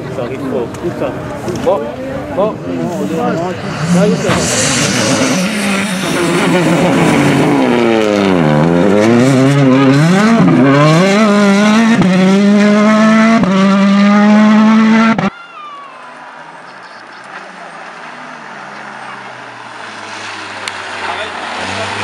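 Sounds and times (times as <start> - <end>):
rally car engine revving: 2.4 - 15.3, 17.0 - 22.0.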